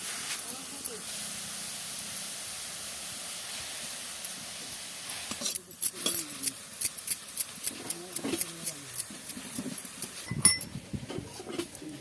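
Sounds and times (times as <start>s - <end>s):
greens sizzling in a hot pan: 0.0s - 12.0s.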